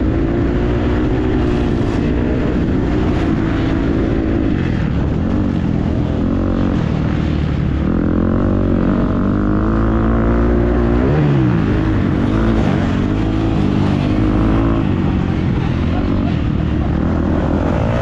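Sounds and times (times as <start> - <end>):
motorbike engine revving: 0.0 - 18.0.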